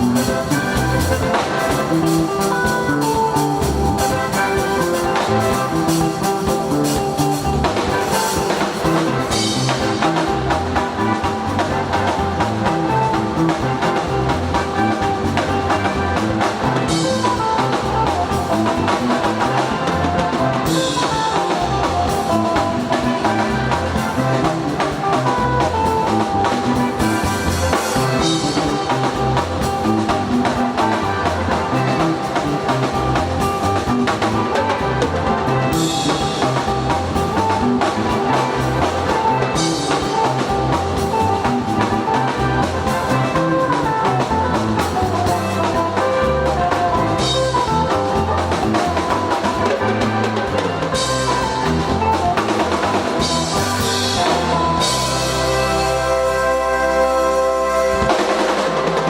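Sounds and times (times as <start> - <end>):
drum kit steady beat: 0.0 - 59.0
instrumental praise band music: 0.0 - 59.0.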